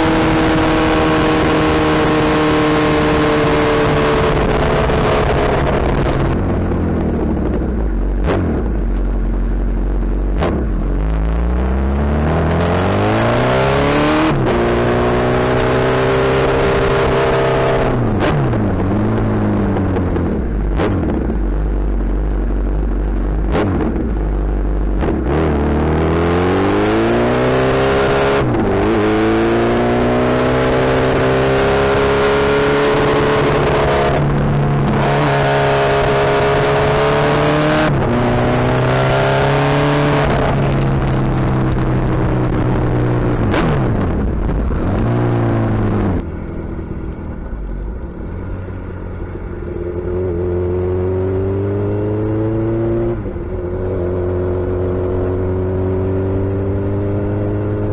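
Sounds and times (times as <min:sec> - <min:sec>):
motorcycle engine shifting gears: 0:00.0 - 0:57.9.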